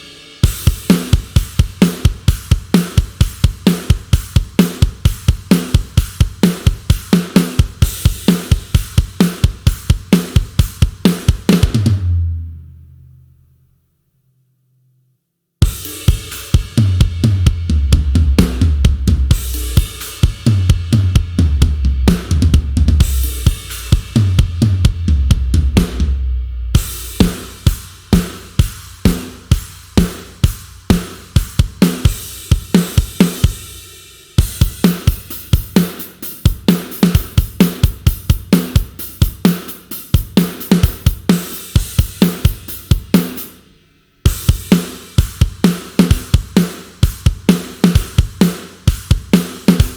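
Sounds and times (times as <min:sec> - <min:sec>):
rock drum kit grooves: 0:00.0 - 0:12.4, 0:15.6 - 0:49.9.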